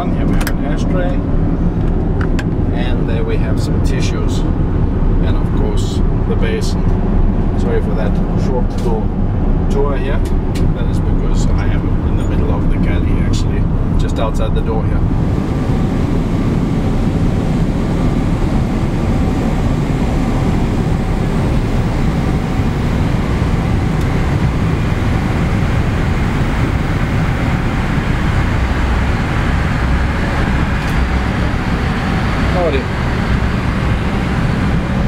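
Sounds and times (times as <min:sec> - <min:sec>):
airliner cabin engine and airflow rush: 0:00.0 - 0:35.0.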